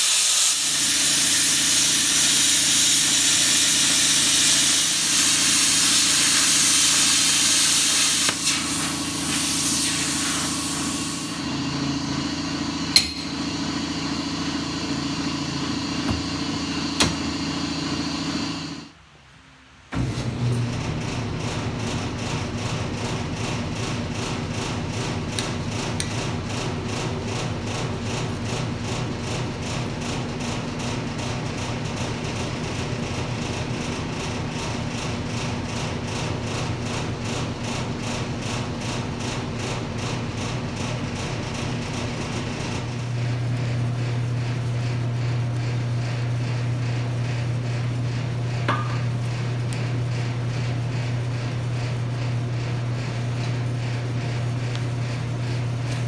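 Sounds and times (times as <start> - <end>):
forge air blower droning: 0.0 - 19.1, 19.9 - 56.0.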